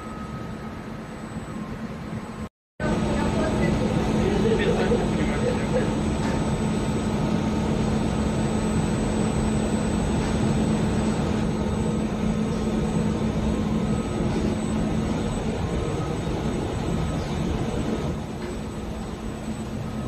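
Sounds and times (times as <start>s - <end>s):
high machine whine: 0.0s - 20.0s
textile mill machinery drone: 0.0s - 20.0s.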